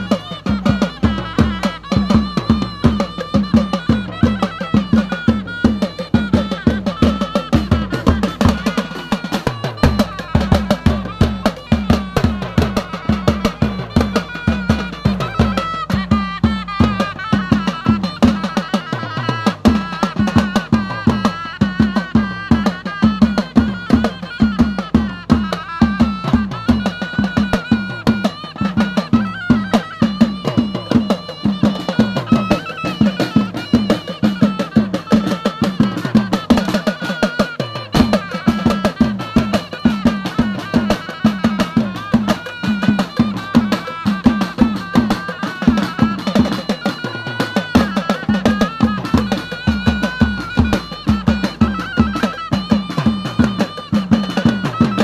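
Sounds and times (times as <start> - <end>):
drums and percussion beat: 0.0 - 55.0
wavering melody line: 0.0 - 55.0.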